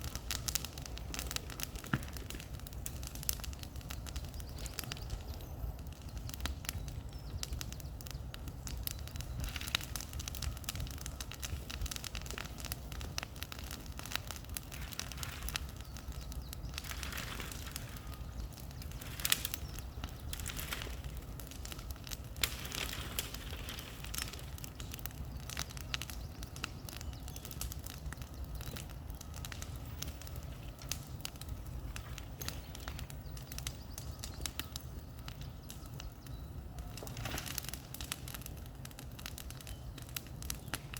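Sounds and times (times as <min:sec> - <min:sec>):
bonfire crackling and popping: 0:00.0 - 0:40.9.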